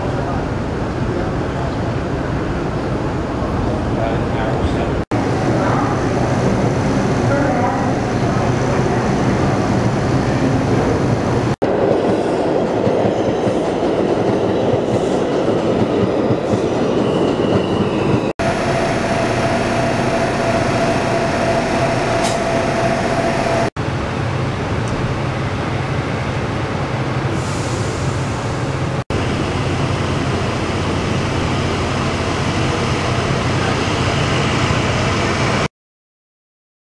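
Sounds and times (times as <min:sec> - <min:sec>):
elevated train running: 0:00.0 - 0:35.7.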